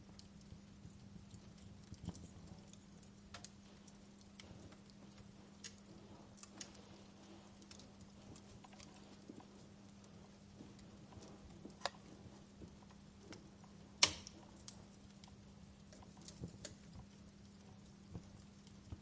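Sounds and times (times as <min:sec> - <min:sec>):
faint low hum: 0:00.0 - 0:19.0
wood fire crackling and popping: 0:00.0 - 0:19.0.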